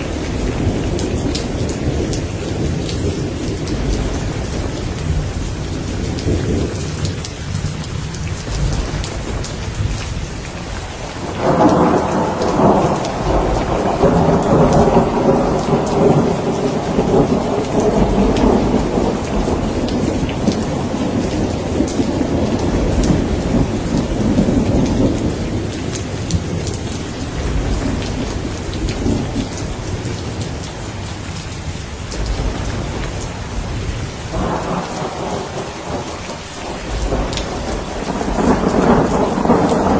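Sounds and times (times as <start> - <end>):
rain falling: 0.0 - 39.9
rolling thunder: 0.0 - 39.9.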